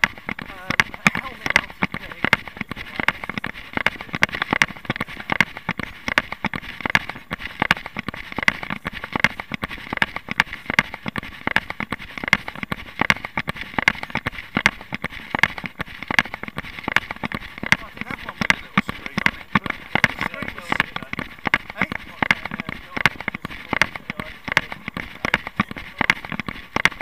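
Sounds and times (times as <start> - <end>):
camera knocking and rustling: 0.0 - 27.0
footfalls on paving: 0.0 - 27.0.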